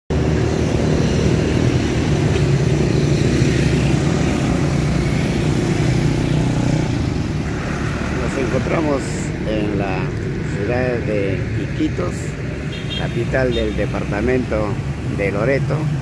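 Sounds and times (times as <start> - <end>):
motorcycle engines running: 0.1 - 16.0.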